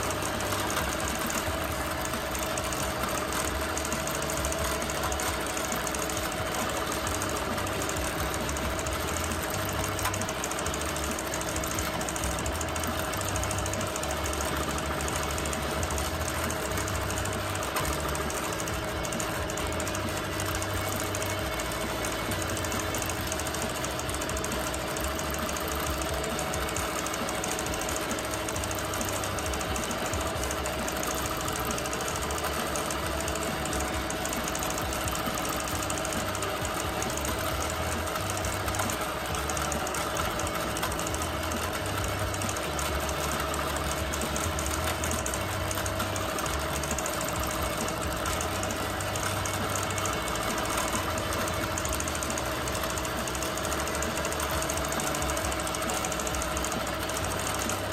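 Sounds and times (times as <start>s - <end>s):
quilting machine stitching: 0.0s - 57.9s.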